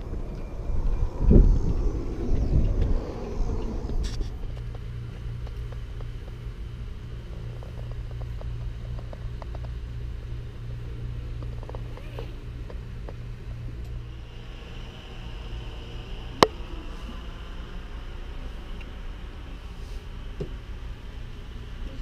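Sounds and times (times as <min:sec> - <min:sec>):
wind rumbling on microphone: 0:00.0 - 0:18.2
ventilation hum: 0:00.0 - 0:22.0.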